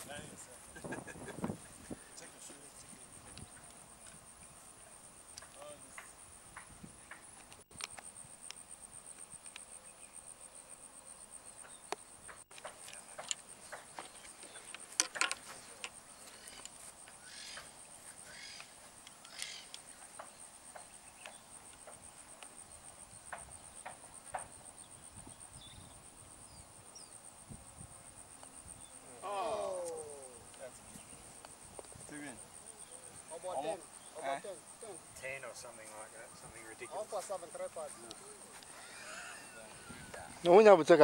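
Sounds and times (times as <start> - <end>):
insect chirring: 0.0 - 41.0.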